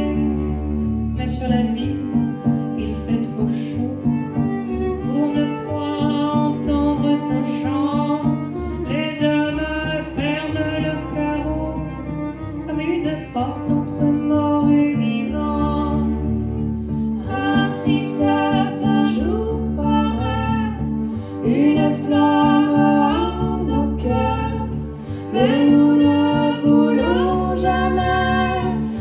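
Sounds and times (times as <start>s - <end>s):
bowed cello: 0.0s - 29.0s
person singing: 2.8s - 16.2s, 17.2s - 29.0s.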